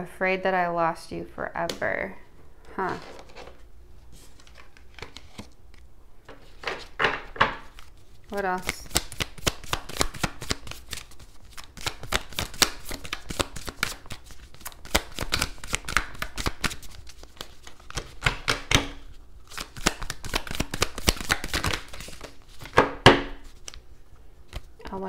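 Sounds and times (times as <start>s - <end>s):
cards being shuffled: 2.9s - 7.0s, 7.6s - 23.8s, 24.4s - 24.8s.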